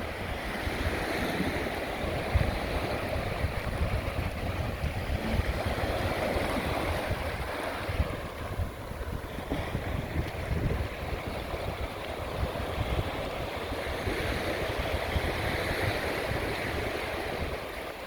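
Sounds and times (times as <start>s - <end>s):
sea surf washing ashore: 0.0s - 18.0s
wind buffeting microphone: 0.0s - 18.0s.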